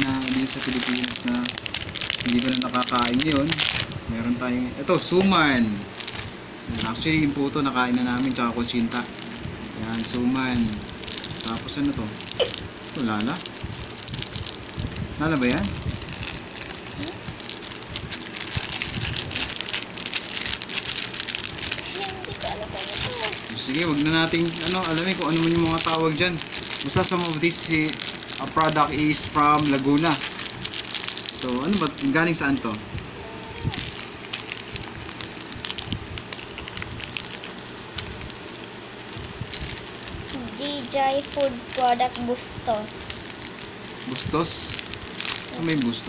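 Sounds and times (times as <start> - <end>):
plastic packets crinkling: 0.0 - 4.0, 5.0 - 46.0.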